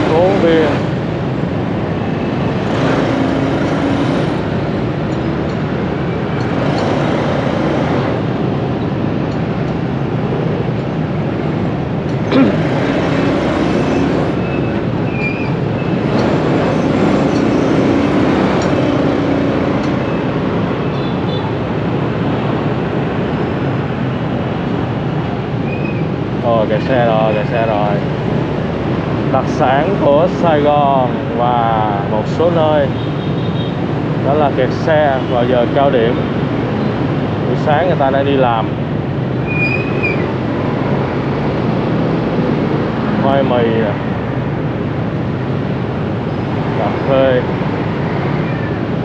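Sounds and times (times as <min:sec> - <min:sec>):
motorbike and vehicle engines: 0:00.0 - 0:49.0
road noise: 0:00.0 - 0:49.0.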